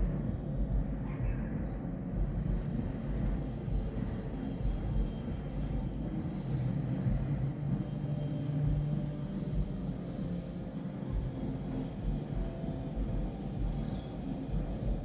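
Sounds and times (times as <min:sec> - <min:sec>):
distant festival rumble: 0:00.0 - 0:15.0
low hum: 0:00.0 - 0:15.0.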